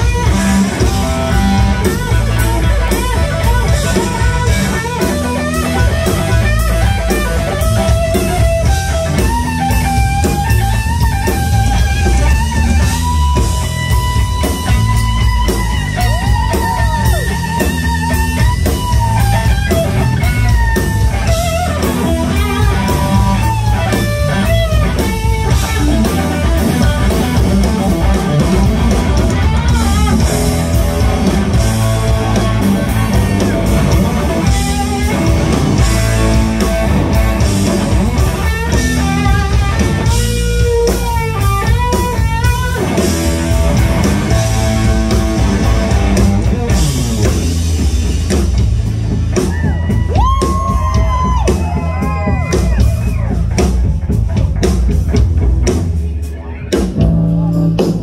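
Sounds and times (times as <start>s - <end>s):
drum kit: 0.0s - 58.0s
electric guitar lead: 0.0s - 58.0s.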